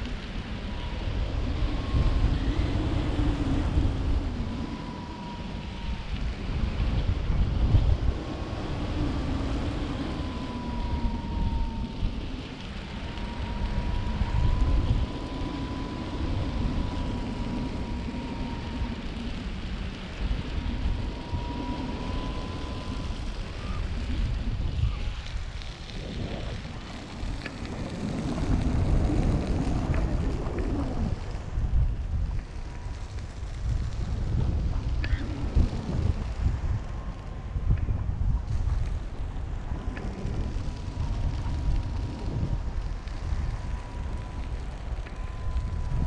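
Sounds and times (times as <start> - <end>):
wind buffeting microphone: 0.0 - 46.0
thin steady whistle: 0.4 - 31.6, 32.4 - 46.0.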